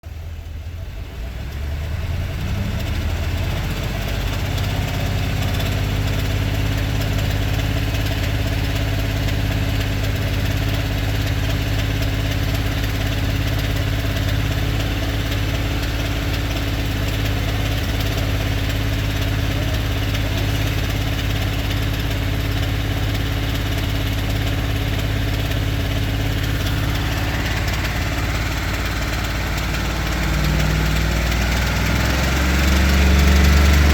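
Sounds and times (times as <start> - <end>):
engine idling: 0.0 - 33.9
engine ticking: 0.0 - 33.9.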